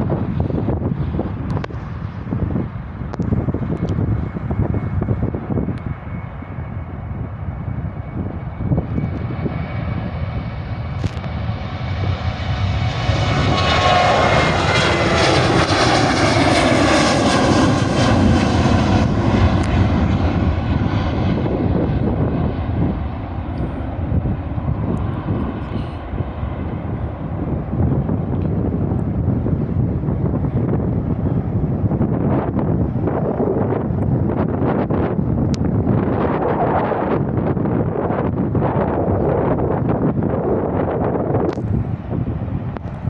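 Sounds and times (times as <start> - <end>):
jet engines roaring past: 0.0 - 43.0.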